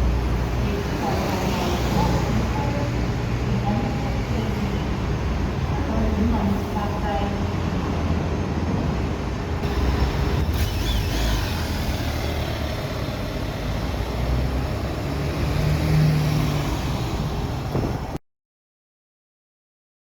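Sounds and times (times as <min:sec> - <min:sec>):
street traffic: 0:00.0 - 0:18.2.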